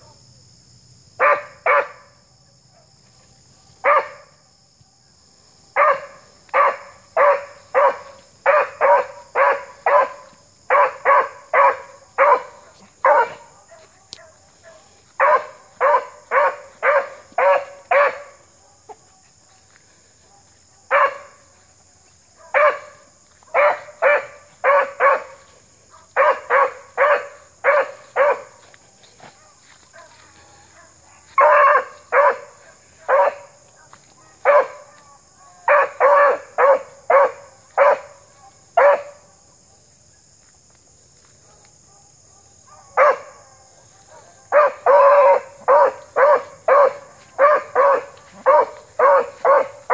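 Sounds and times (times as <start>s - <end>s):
dog barking: 1.2s - 2.9s, 3.6s - 4.4s, 5.7s - 21.6s, 22.3s - 33.6s, 34.2s - 40.0s, 41.4s - 49.9s.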